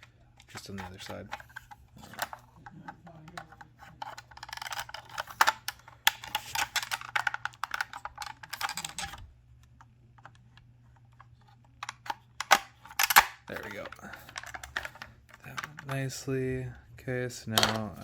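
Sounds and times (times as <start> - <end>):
plastic parts clicking and rattling: 0.0 - 16.1.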